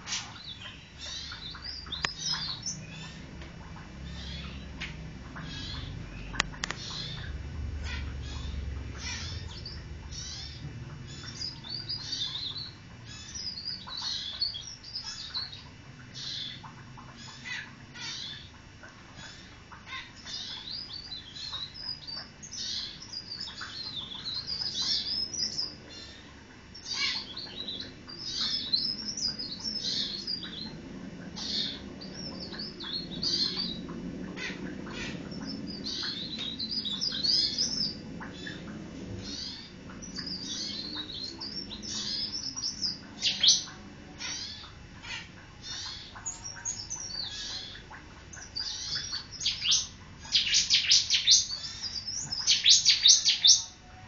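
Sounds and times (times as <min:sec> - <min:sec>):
songbird twittering: 0:00.0 - 0:18.6, 0:19.2 - 0:53.8.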